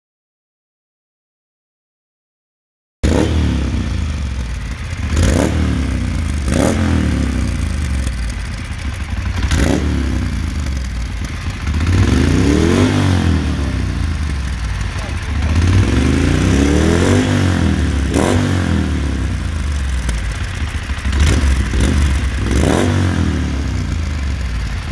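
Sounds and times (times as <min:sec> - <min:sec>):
motorcycle engine revving: 0:03.0 - 0:24.9
motorcycle engine idling: 0:03.1 - 0:24.9.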